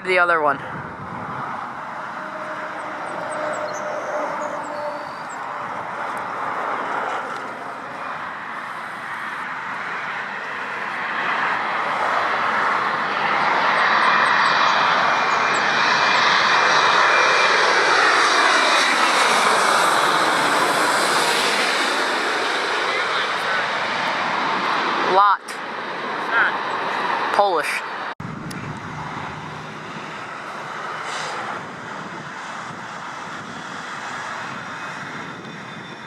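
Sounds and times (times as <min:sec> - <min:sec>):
jet airliner engine roar: 0:00.0 - 0:36.0.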